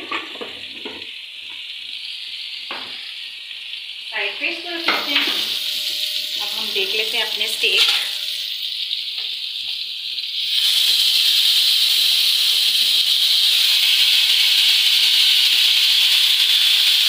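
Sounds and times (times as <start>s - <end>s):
chicken sizzling on a grill pan: 0.0s - 17.0s.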